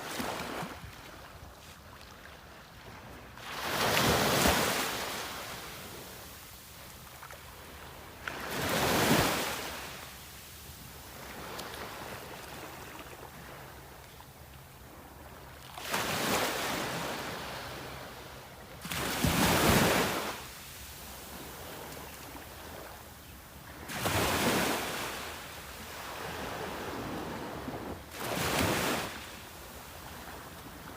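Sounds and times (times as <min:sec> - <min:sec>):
sea waves breaking on shore: 0:00.0 - 0:14.0, 0:14.8 - 0:23.0, 0:23.6 - 0:30.9.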